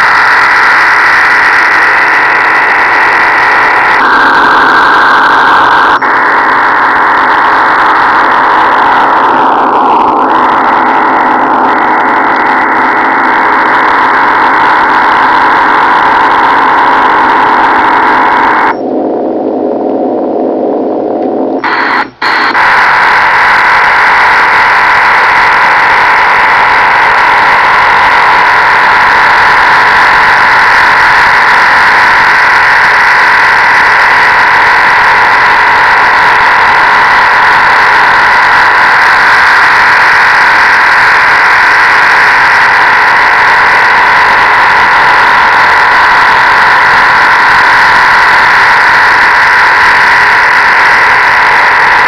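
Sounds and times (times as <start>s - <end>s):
radio signal rough rushing noise: 0.0s - 52.0s.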